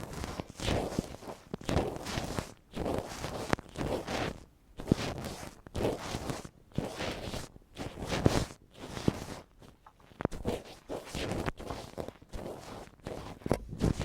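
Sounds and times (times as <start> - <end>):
ear pick scraping microphone: 0.0 - 14.0.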